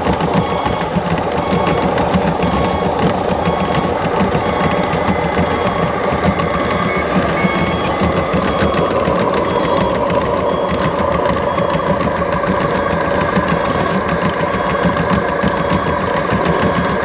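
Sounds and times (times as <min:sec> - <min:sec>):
reversing beeper: 0:00.0 - 0:17.0
toy loader motor running: 0:00.0 - 0:17.0.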